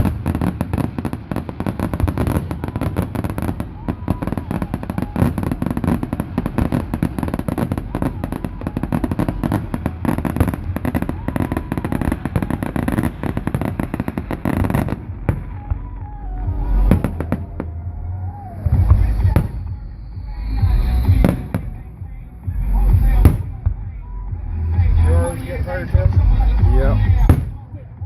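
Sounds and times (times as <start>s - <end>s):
fireworks crackling: 0.0s - 24.0s
fireworks booms: 0.0s - 28.0s.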